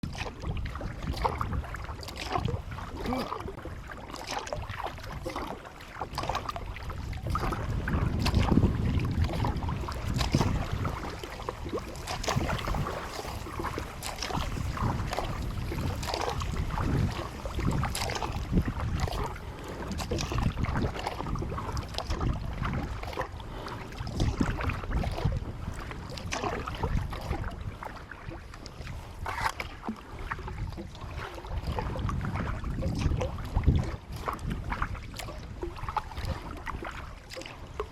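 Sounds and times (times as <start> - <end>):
paddle splashing in water: 0.0 - 37.9
wind buffeting microphone: 0.0 - 37.9.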